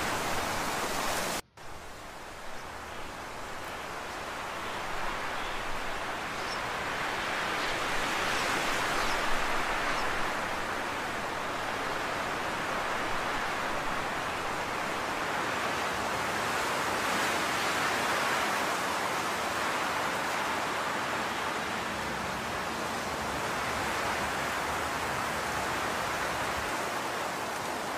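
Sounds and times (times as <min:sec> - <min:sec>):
steady rushing hiss: 0:00.0 - 0:27.9.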